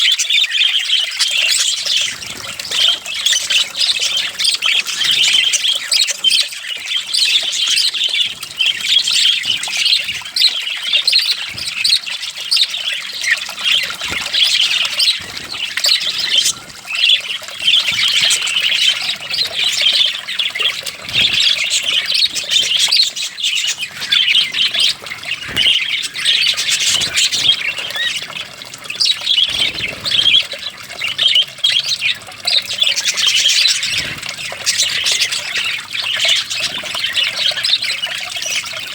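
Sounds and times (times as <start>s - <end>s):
parrots chattering: 0.0s - 38.9s.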